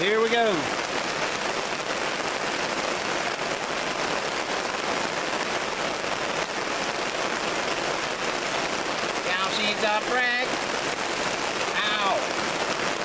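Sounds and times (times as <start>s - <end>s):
rain falling and pattering: 0.0s - 13.0s.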